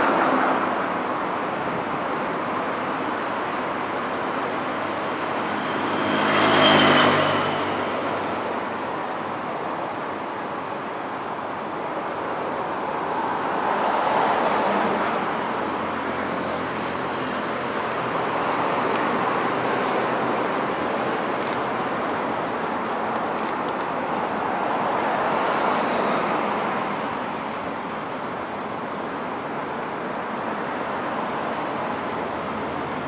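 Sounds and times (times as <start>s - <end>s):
city road traffic: 0.0s - 33.0s.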